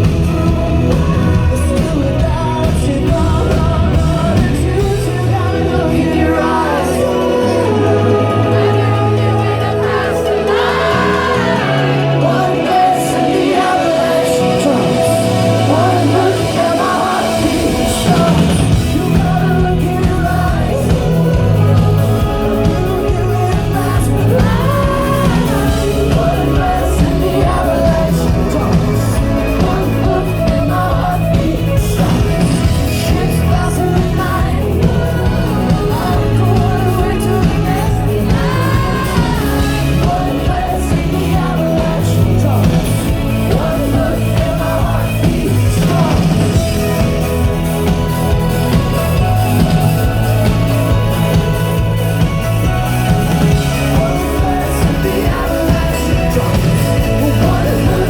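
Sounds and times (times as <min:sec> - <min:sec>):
belted lead vocal: 0:00.0 - 0:58.0
rock band with bass and drums: 0:00.0 - 0:58.0.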